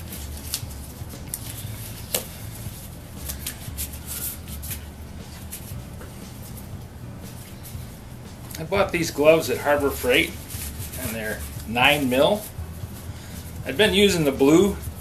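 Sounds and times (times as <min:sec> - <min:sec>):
gloves crackling as peeled off: 0:00.0 - 0:15.0
steady low hum: 0:00.0 - 0:15.0.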